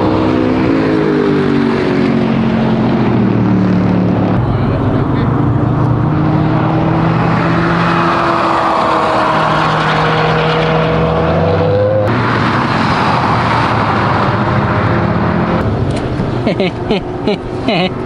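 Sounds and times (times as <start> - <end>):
car engine pulling hard: 0.0 - 18.0.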